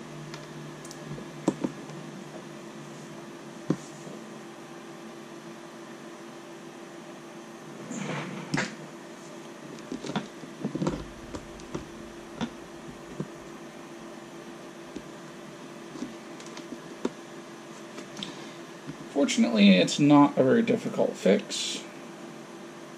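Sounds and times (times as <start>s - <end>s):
steady room hum: 0.0s - 22.9s.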